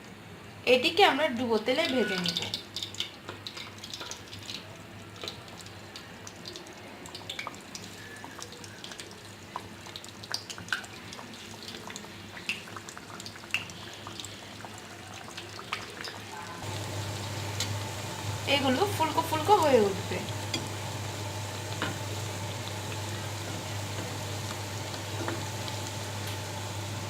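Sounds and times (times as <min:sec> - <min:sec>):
food deep-frying in hot oil: 0:00.7 - 0:27.0.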